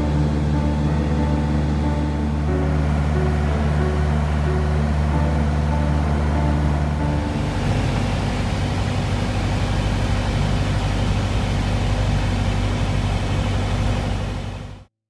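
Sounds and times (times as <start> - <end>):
propeller airplane engine drone: 0.0 - 14.9.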